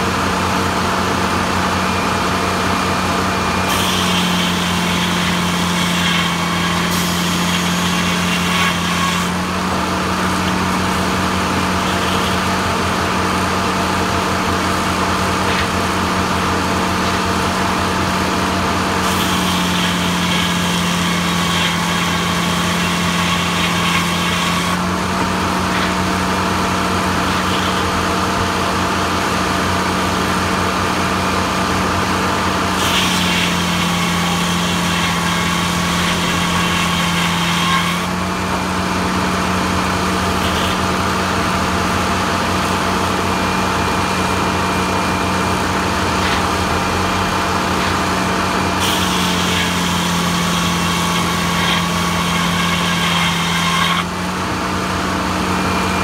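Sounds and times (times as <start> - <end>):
blade sawing through log: 0.0 - 56.0
sawmill blade drone: 0.0 - 56.0.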